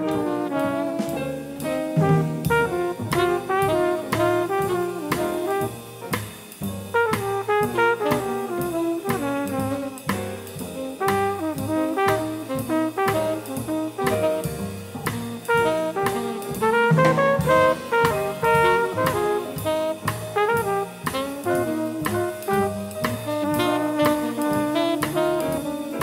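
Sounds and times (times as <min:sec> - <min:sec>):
trumpet melody: 0:00.0 - 0:06.2, 0:06.9 - 0:26.0
bass line: 0:00.0 - 0:26.0
drum kit with cymbals: 0:00.0 - 0:26.0
piano: 0:00.0 - 0:26.0.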